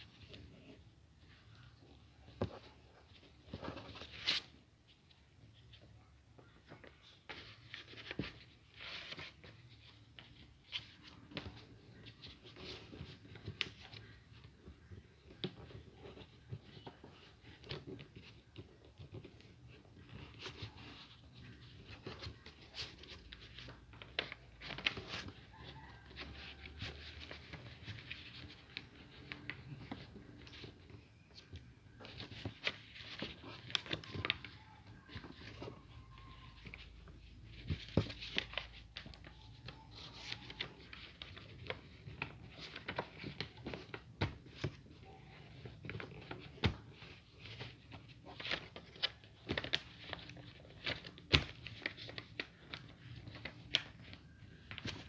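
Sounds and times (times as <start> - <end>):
paper being folded and creased: 0.0 - 55.0.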